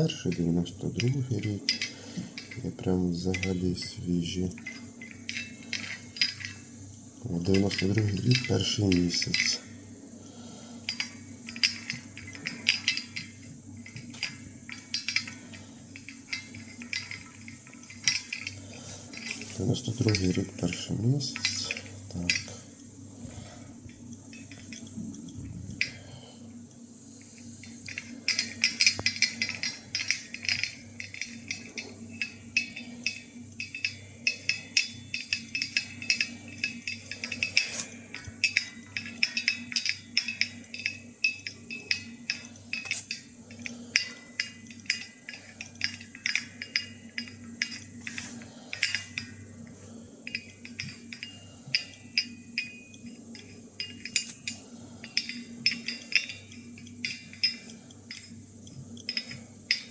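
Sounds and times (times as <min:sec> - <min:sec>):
glass tubes clinking together: 0:00.0 - 0:59.9
steady low hum: 0:00.0 - 0:59.9.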